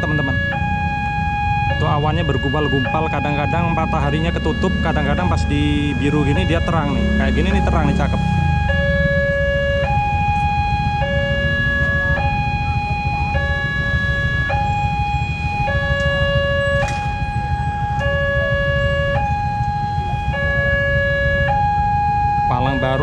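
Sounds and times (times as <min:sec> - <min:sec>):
two-tone level crossing alarm: 0:00.0 - 0:23.0.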